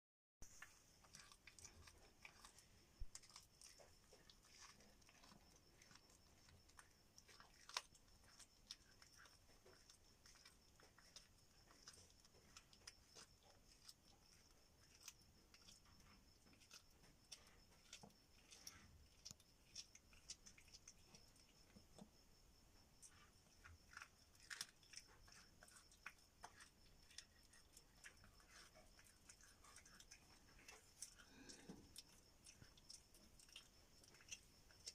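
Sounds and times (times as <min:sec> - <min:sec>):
cat chewing crunching: 0:00.5 - 0:22.1, 0:23.0 - 0:34.9.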